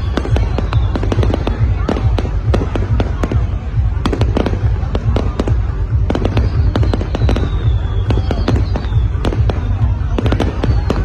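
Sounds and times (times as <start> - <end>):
firework bangs and crackles: 0.0 - 11.0.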